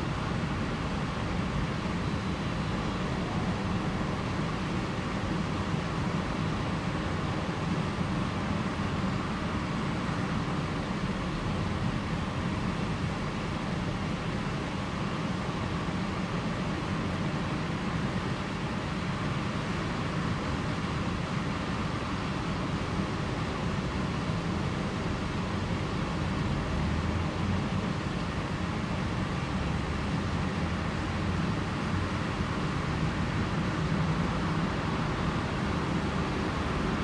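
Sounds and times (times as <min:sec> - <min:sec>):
outdoor background rumble: 0:00.0 - 0:37.0.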